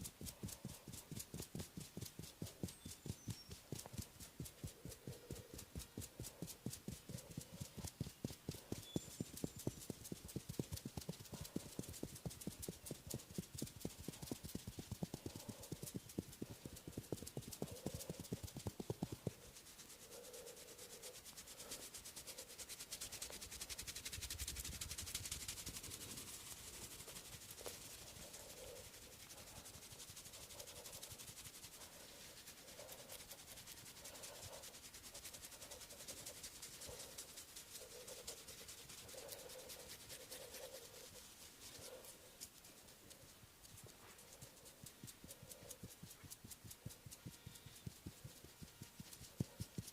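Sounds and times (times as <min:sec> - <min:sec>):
hands rubbing skin and hair: 0:00.0 - 0:49.9.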